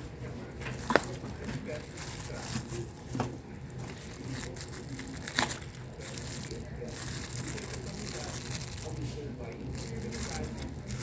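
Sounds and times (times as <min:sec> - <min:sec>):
things being moved and rustled: 0:00.0 - 0:11.0.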